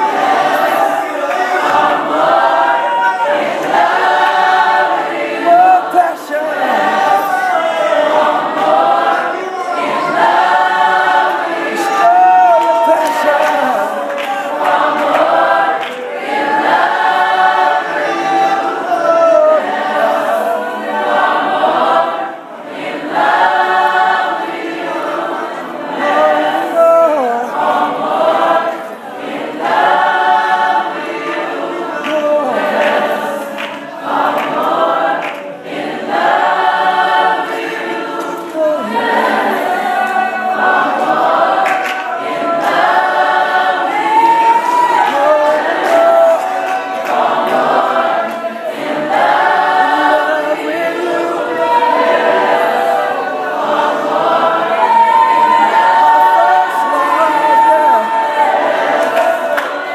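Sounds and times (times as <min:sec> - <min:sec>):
group singing worship song: 0:00.0 - 0:59.9.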